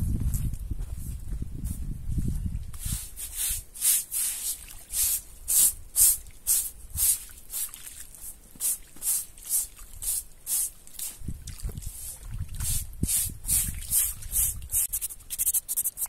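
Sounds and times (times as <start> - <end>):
broom swishing through water: 2.8 - 16.0.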